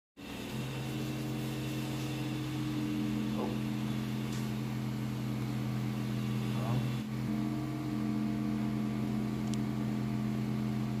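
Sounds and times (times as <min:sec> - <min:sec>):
electric massager humming: 0:00.2 - 0:11.0.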